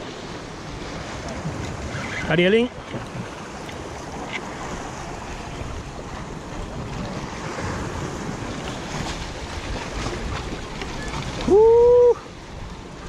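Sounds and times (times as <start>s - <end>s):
surf breaking on rocks: 0.0s - 12.4s
wind buffeting microphone: 0.0s - 13.0s.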